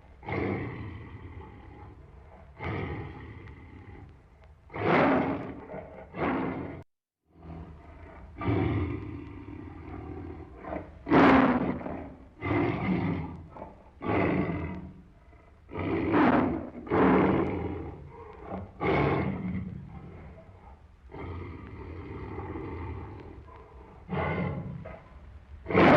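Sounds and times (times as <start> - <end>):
tiger roaring and growling: 0.2 - 25.9.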